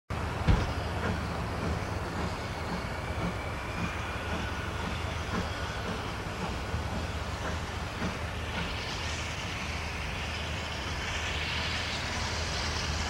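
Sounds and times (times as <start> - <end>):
steam train low rumble: 0.1 - 13.0.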